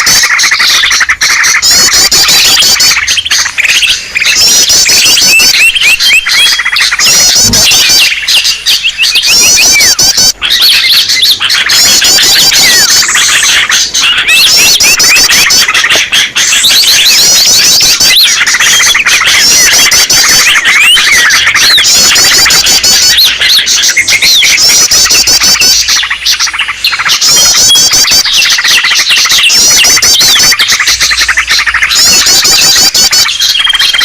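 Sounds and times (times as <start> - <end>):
small birds chirping and twittering: 0.0 - 34.0.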